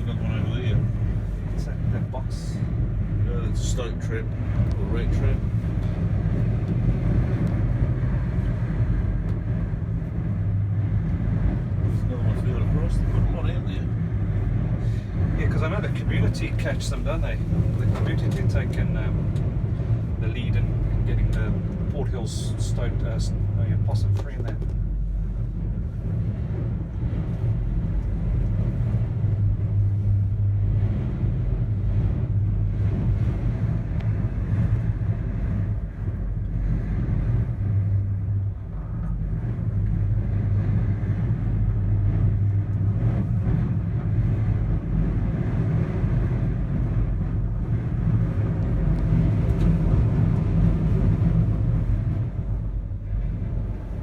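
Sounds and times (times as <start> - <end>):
gondola cabin rumble: 0.0 - 54.0.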